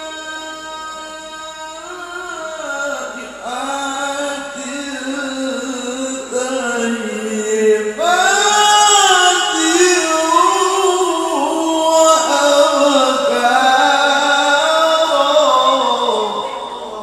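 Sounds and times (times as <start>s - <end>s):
man reciting melodically into microphone: 0.0s - 17.0s.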